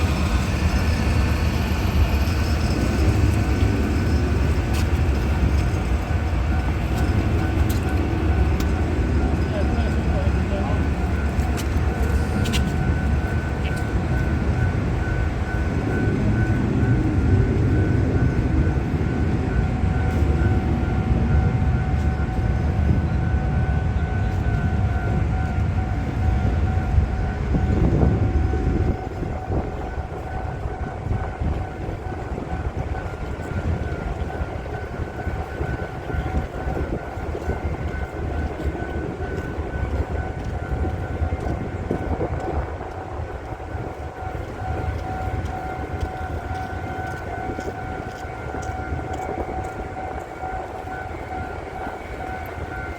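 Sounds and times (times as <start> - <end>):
constant whine: 0.0 - 52.9.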